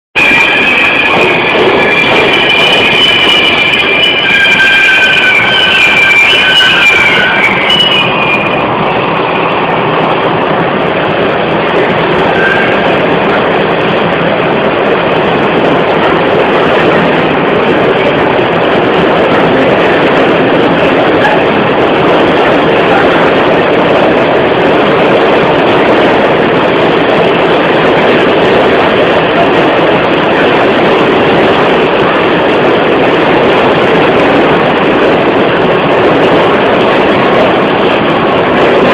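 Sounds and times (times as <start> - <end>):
moving vehicle rumbling: 0.3 - 38.9.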